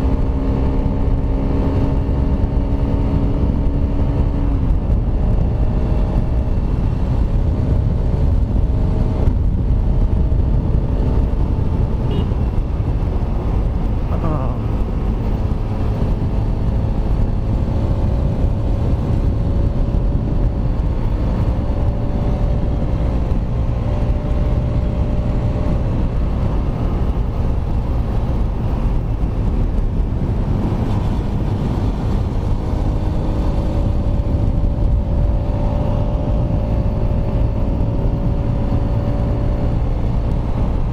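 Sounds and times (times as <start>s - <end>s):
motorcycle engine cruising: 0.0s - 40.9s
wind noise rumble: 0.0s - 40.9s.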